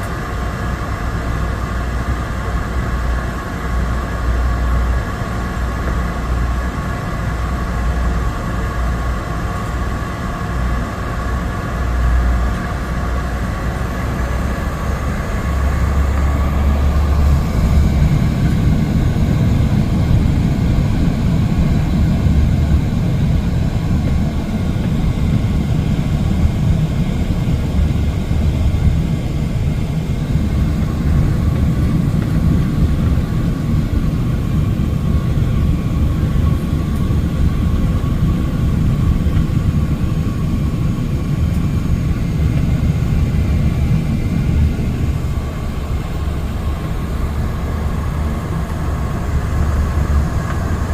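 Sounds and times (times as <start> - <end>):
deep engine rumble: 0.0 - 50.9
high engine whine: 0.0 - 50.9
turboprop engine cabin noise: 0.0 - 50.9.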